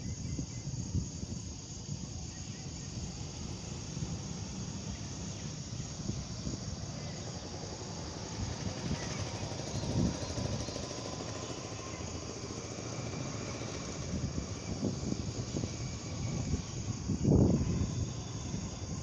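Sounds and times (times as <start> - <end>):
faint insect chirring: 0.0 - 19.0
steady low rumble: 1.0 - 19.0.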